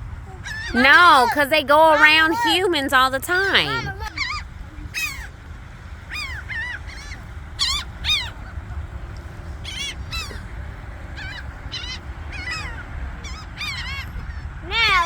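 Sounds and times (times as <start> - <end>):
seagulls calling: 0.0 - 15.0.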